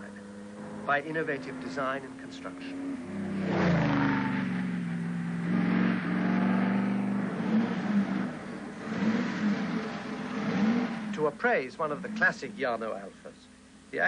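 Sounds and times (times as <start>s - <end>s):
car engine accelerating: 0.0s - 13.3s.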